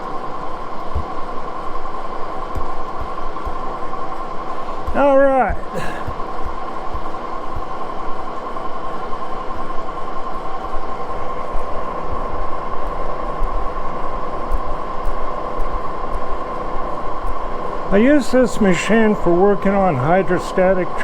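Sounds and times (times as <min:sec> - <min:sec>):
machine whine: 0:00.0 - 0:21.0.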